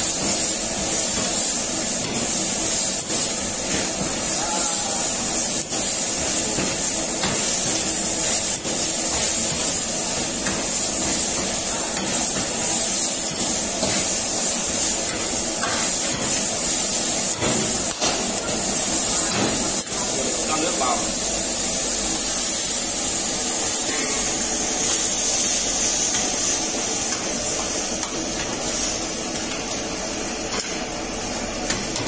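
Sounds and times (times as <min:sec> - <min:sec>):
chicken sizzling in a wok: 0:00.0 - 0:32.0.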